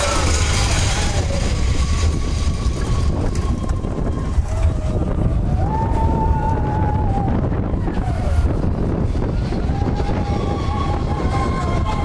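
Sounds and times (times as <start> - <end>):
roller coaster cars rumbling: 0.0 - 12.0
wheel squeals: 0.0 - 12.0
wind buffeting microphone: 0.0 - 12.0.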